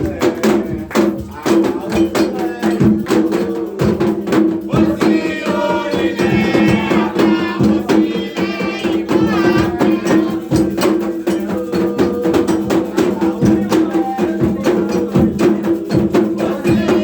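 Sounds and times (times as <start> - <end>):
hand drums playing rhythm: 0.0 - 17.0
voices singing: 0.0 - 17.0.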